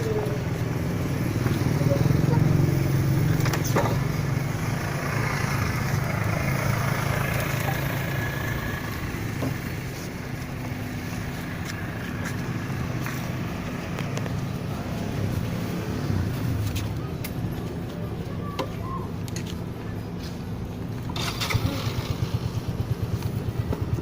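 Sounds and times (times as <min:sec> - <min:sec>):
road noise: 0:00.0 - 0:24.0
vehicle engine drone: 0:00.0 - 0:24.0.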